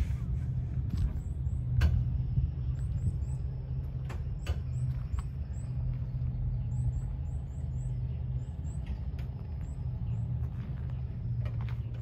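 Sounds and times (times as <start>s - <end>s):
low humming rumble: 0.0s - 12.0s.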